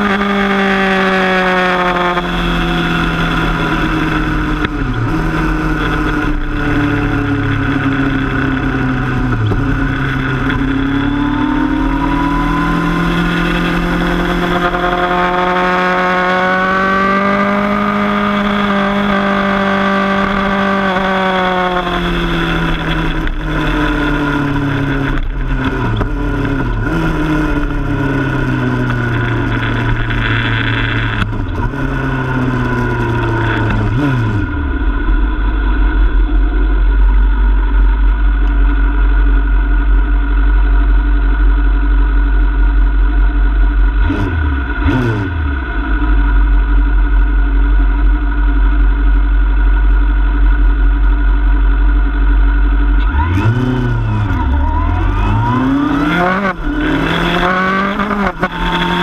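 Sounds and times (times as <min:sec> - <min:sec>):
gear changes: 0:00.0 - 0:40.4, 0:43.0 - 0:59.0
motorcycle engine revving: 0:00.0 - 0:59.0.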